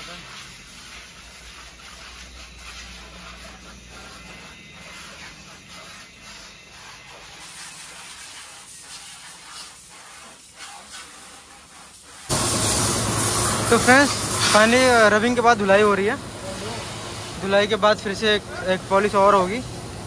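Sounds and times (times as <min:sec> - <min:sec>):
car polisher humming: 0:00.0 - 0:09.4, 0:12.2 - 0:20.0
buffing pad hissing on paint: 0:00.0 - 0:20.0.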